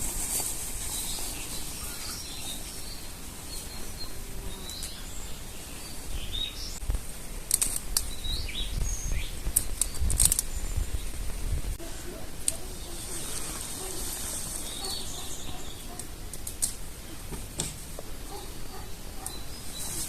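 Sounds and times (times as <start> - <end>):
outdoor background noise: 0.0 - 20.0
small birds chirping: 0.8 - 20.0.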